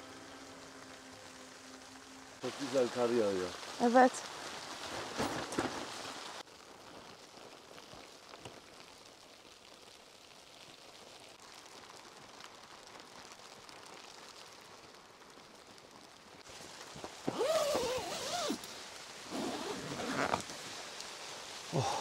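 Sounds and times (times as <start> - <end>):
snow pattering softly: 0.0 - 22.0.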